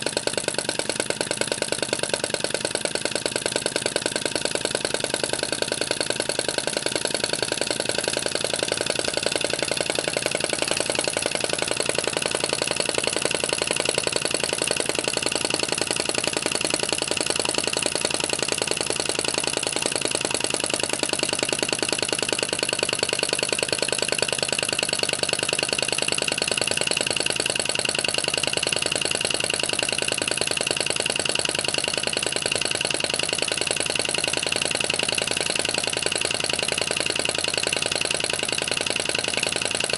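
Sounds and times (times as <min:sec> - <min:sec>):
model engine clattering: 0:00.0 - 0:39.9.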